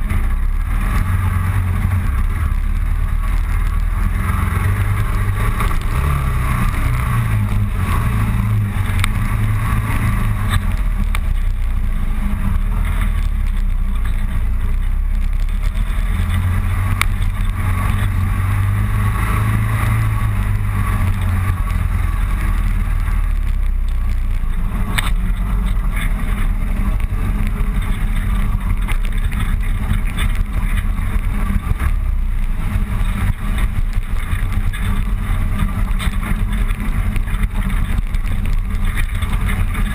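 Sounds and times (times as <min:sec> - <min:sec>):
motorcycle engine rumbling: 0:00.0 - 0:39.9
rushing wind: 0:00.0 - 0:39.9.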